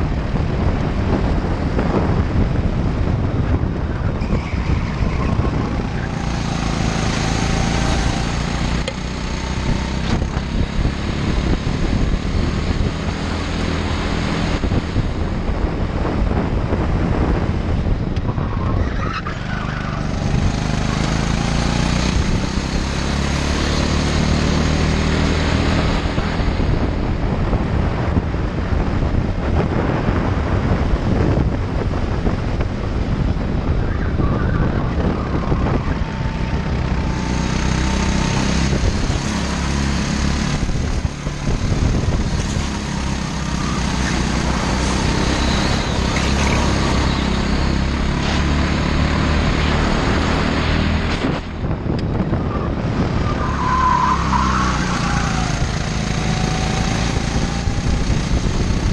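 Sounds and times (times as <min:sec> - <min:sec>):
go-kart engine running hard: 0:00.0 - 0:58.9
wind buffeting microphone: 0:00.0 - 0:58.9.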